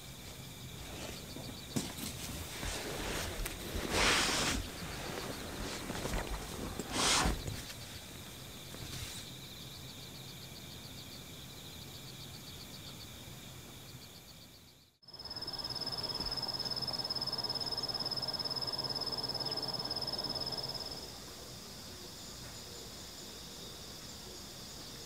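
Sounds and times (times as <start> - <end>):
high-pitched insect trill: 0.0 - 21.3
insects chirping: 0.0 - 25.0.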